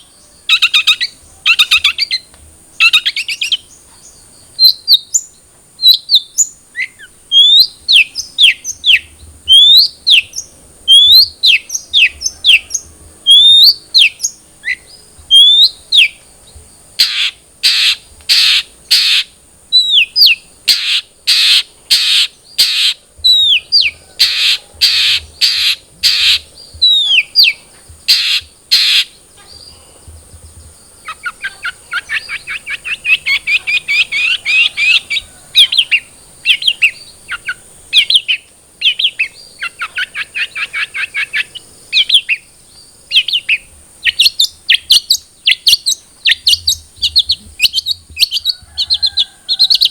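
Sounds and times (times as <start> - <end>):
bird singing harsh and whistled notes: 0.0 - 49.9.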